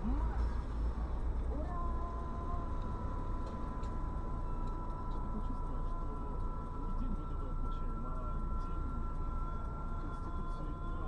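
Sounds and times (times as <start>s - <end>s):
car cabin low rumble: 0.0s - 11.0s
faint muffled voices: 0.0s - 11.0s.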